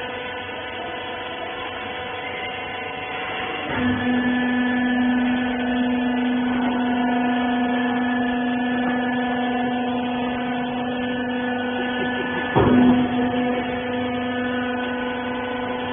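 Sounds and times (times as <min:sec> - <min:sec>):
hydraulic machine hum: 0:00.0 - 0:15.9.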